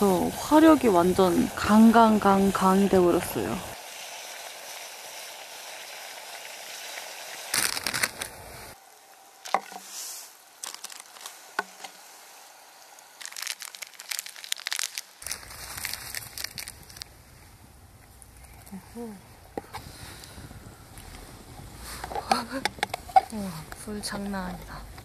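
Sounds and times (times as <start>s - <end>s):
fire crackles and pops: 0.0s - 8.8s, 10.5s - 18.8s, 19.4s - 25.0s
wood fire hissing: 0.0s - 25.0s.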